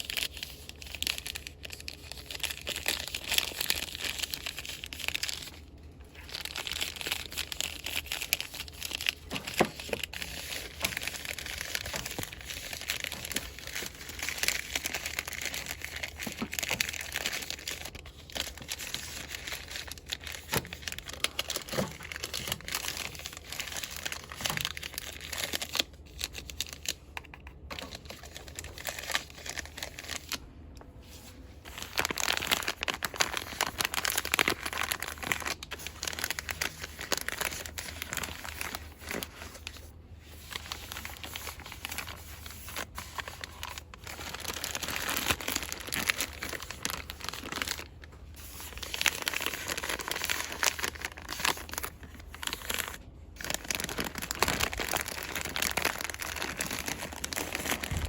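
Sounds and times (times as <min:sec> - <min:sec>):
packaging rustling and crinkling: 0:00.0 - 0:58.0.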